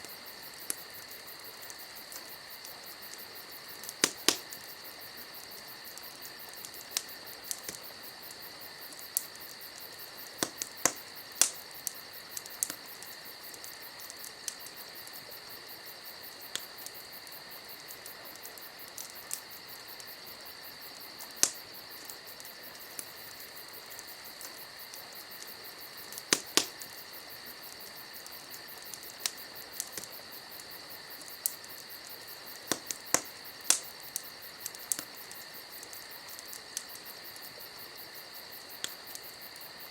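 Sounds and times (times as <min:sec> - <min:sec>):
crickets chirring: 0:00.0 - 0:39.9
wood fire crackling and popping: 0:00.0 - 0:39.9.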